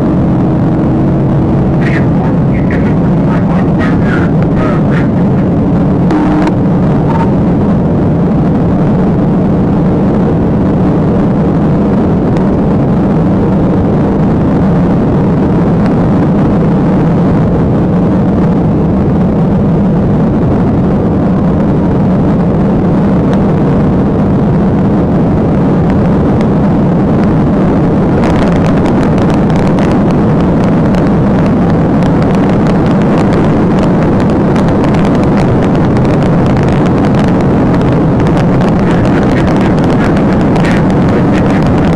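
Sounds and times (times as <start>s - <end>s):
car engine tyre and wind drone: 0.0s - 41.9s.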